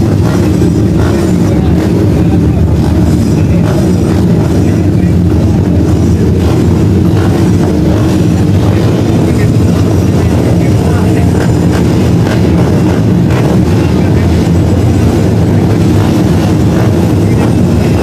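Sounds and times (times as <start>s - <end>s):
dirt-bike engines droning: 0.0s - 18.0s.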